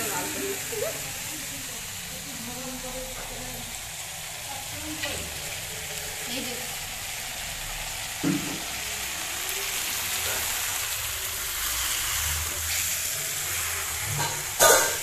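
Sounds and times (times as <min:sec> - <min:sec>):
vegetables sizzling in iron pan: 0:00.0 - 0:15.0.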